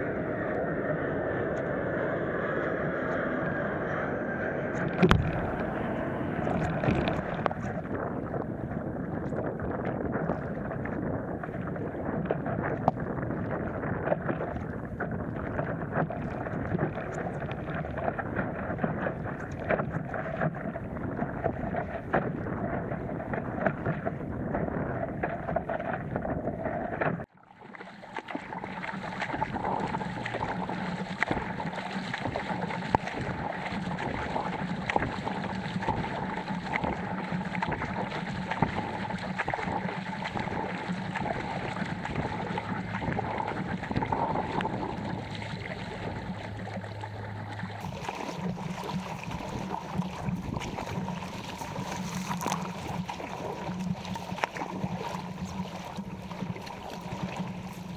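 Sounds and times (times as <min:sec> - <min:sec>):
wind buffeting microphone: 0:00.0 - 0:27.3, 0:28.5 - 0:57.9
water splashing against paddleboard: 0:04.7 - 0:57.9.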